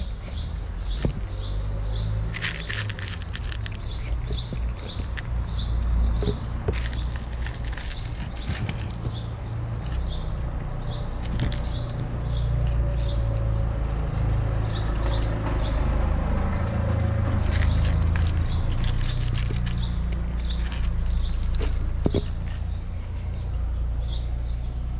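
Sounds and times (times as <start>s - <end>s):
cats crunching dry kibble: 0.0s - 23.2s.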